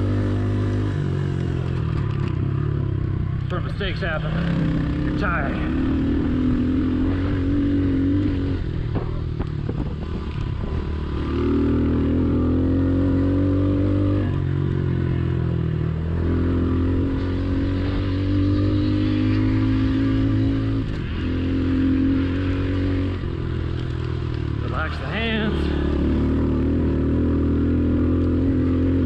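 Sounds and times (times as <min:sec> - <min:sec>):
motorbike engine revving: 0:00.0 - 0:29.0.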